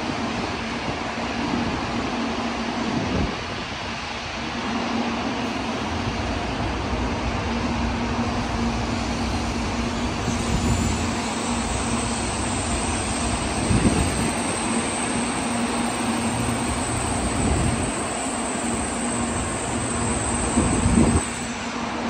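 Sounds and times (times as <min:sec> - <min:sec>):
high-speed train rushing roar: 0:00.0 - 0:22.0.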